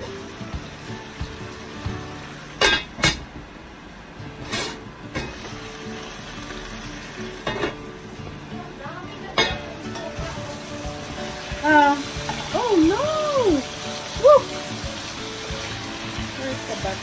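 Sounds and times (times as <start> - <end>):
vegetables sizzling in a pot: 0.0 - 17.0.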